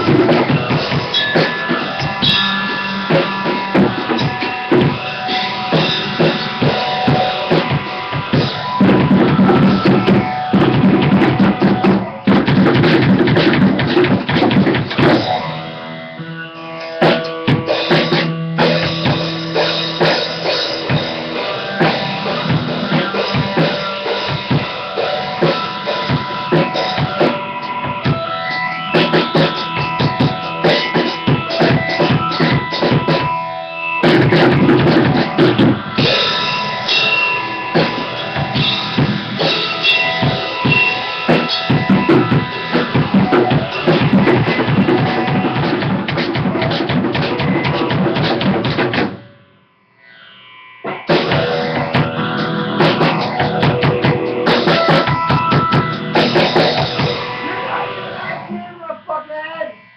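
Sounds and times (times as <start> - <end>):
drum kit playing: 0.0 - 49.4, 51.0 - 59.9
held pitched notes: 0.0 - 59.9.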